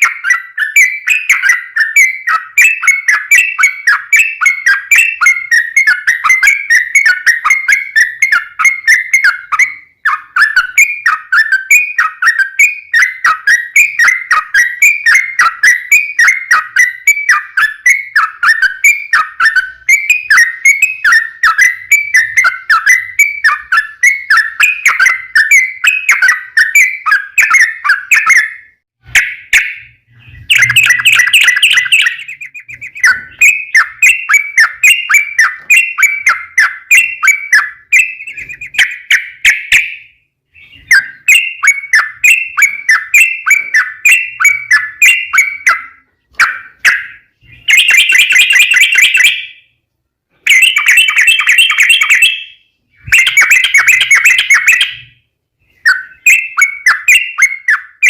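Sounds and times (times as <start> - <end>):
bird song with bubbly chirping: 0.0 - 49.8, 50.5 - 58.0.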